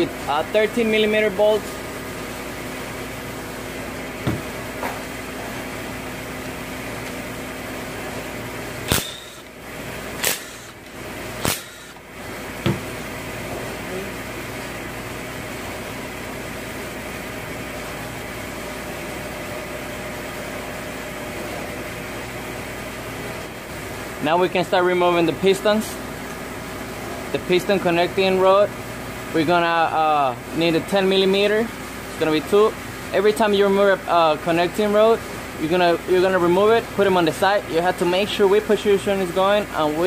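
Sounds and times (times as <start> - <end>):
shop hum: 0.0 - 40.0.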